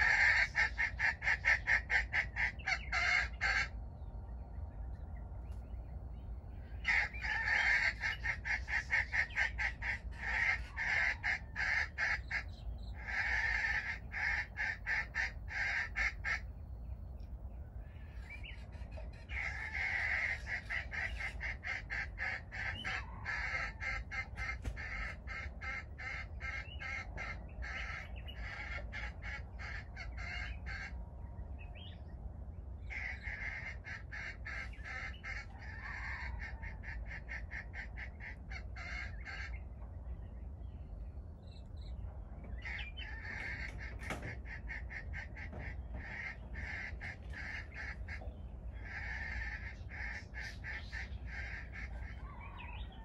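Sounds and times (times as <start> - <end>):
bird calling in harsh pulses: 0.0 - 3.8, 6.6 - 16.6, 17.8 - 31.0, 32.8 - 39.7, 42.6 - 53.0
low steady rumble: 0.0 - 53.0.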